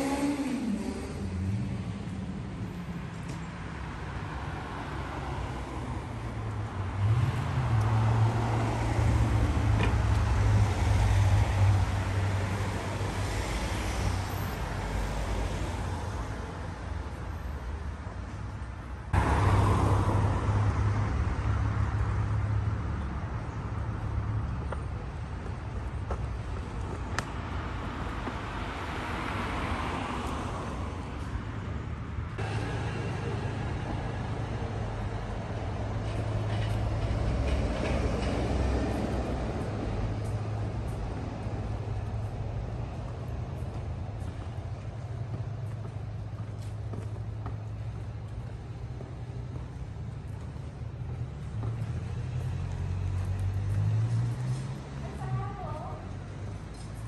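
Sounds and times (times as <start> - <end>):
passing vehicle noise: 0.0 - 57.0
road traffic rumble: 0.0 - 57.0
vehicle engine hum: 0.0 - 57.0.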